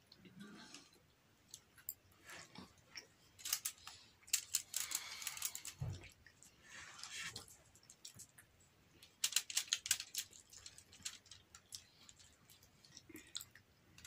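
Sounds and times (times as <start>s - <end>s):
light irregular clicks and ticks: 0.0s - 2.1s, 2.8s - 14.0s.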